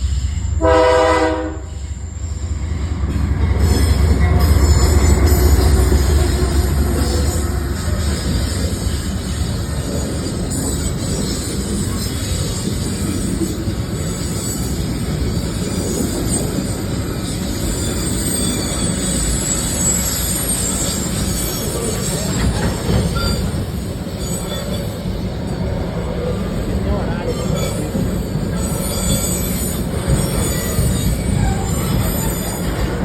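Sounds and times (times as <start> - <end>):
freight train rumbling past: 0.0 - 33.0
train wheels squealing: 1.6 - 33.0.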